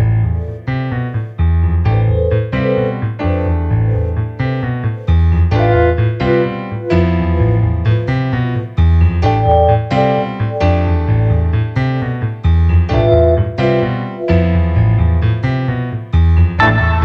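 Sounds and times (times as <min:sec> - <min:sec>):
deep bass line: 0:00.0 - 0:17.0
electric piano chords: 0:00.0 - 0:17.0.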